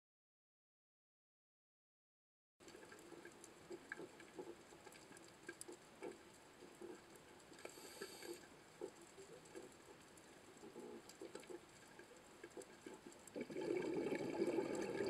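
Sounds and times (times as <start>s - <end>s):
underwater clicks and crackles: 2.6s - 15.0s.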